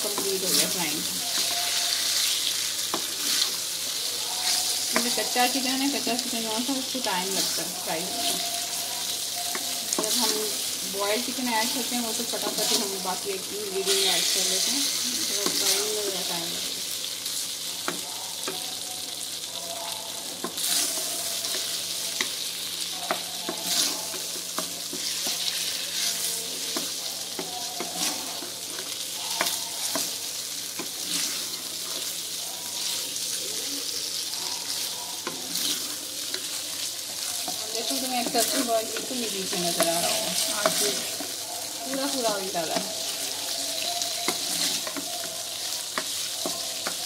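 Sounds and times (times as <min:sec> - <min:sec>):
chicken sizzling in hot oil: 0:00.0 - 0:47.0.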